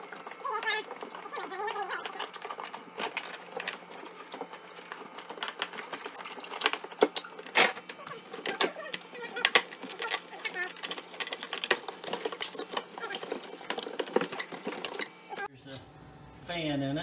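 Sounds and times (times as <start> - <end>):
plastic parts clattering: 1.0 - 15.1.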